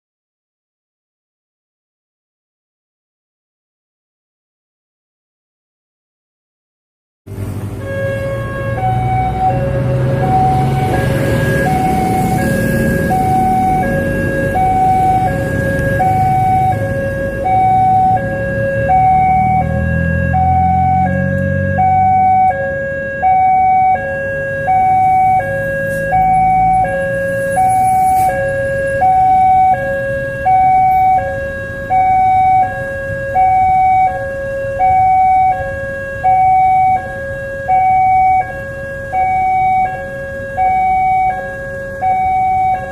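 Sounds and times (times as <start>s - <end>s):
road vehicles passing: 7.3s - 42.9s
two-tone crossing warning siren: 7.3s - 42.9s.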